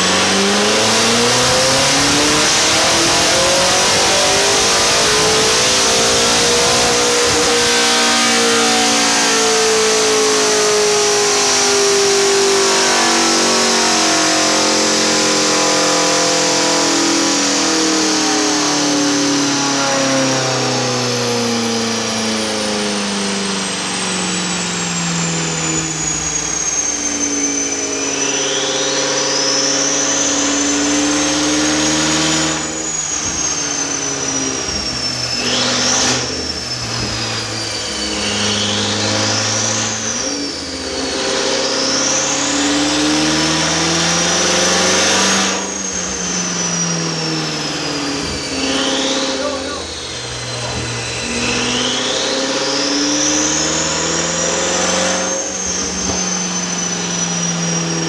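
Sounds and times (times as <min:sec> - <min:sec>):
car engine revving on dyno: 0:00.0 - 0:58.0
high turbo whine: 0:00.0 - 0:58.0.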